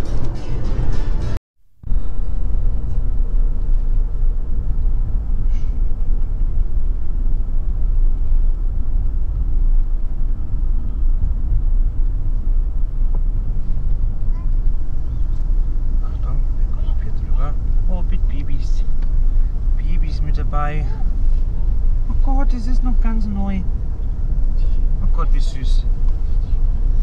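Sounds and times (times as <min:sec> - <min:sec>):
car driving on road rumble: 0:00.0 - 0:27.0.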